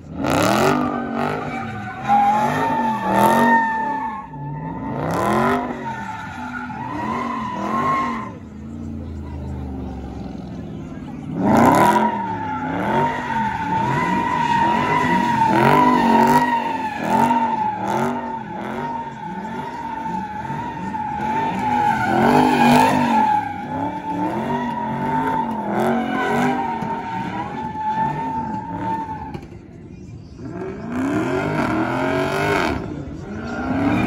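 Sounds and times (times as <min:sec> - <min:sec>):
car engine revving: 0:00.0 - 0:29.7, 0:30.3 - 0:34.0
tires screeching: 0:00.0 - 0:34.0.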